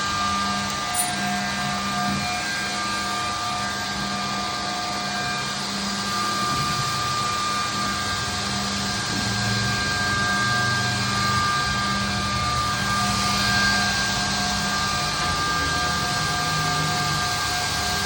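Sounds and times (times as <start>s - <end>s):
edge banding machine running: 0.0s - 18.0s.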